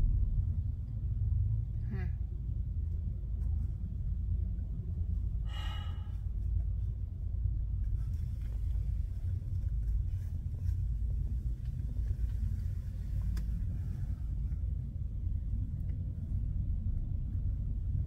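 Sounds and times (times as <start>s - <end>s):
ferry engine rumble: 0.0s - 18.0s.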